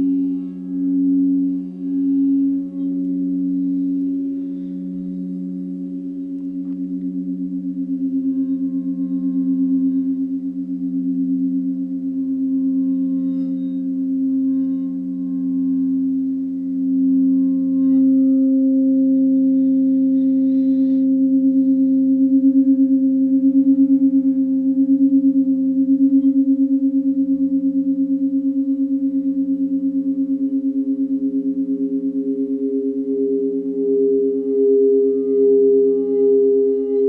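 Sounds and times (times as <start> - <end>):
singing bowls sustained tones: 0.0 - 37.0.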